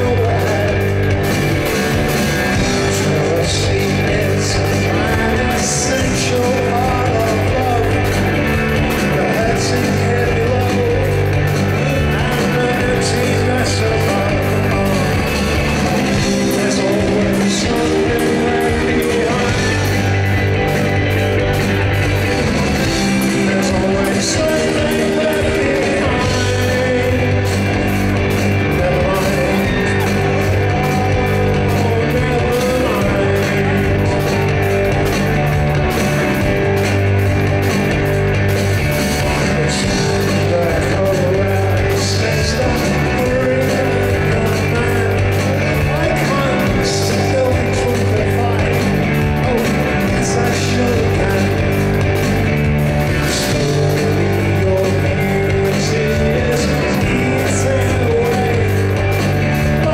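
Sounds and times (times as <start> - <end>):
man singing: 0.0 - 37.6, 39.0 - 59.9
bass guitar: 0.0 - 59.9
drums: 0.0 - 59.9
electric guitar: 0.0 - 59.9.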